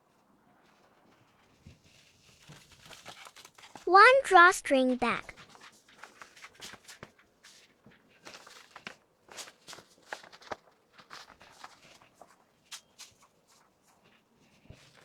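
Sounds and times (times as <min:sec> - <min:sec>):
small items rustling: 0:01.3 - 0:03.9, 0:05.3 - 0:15.0.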